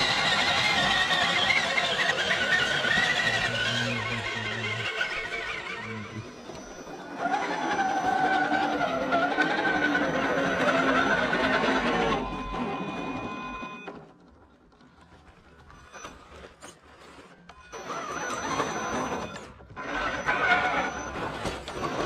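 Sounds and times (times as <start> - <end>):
toy car motor whining: 0.0 - 13.9, 15.8 - 22.0.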